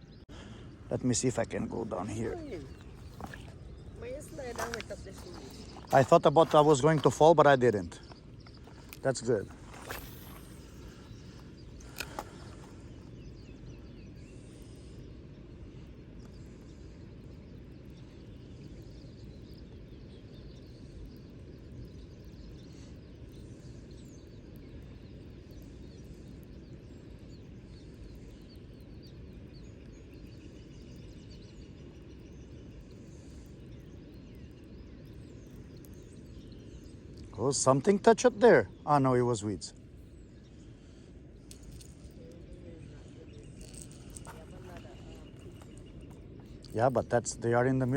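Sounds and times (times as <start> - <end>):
faint bird chirps: 0.0 - 47.9
steady low rumble: 0.0 - 47.9.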